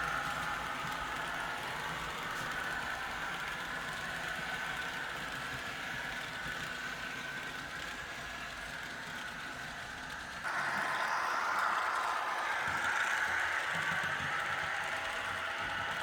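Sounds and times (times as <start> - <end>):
model train motor whine: 0.0 - 16.0
wheels rolling on rails: 0.0 - 16.0.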